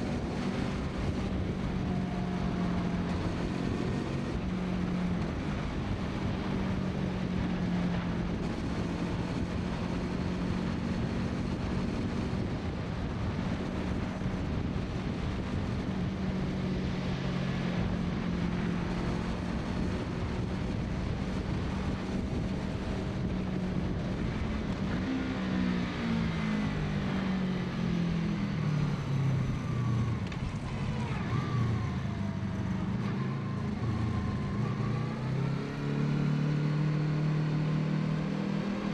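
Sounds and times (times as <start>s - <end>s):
motorcycle engine running: 0.0s - 35.5s.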